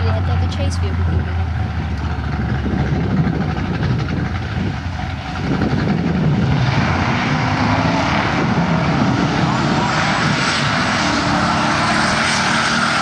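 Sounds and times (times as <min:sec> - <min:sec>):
golf cart engine driving past: 0:00.0 - 0:13.0.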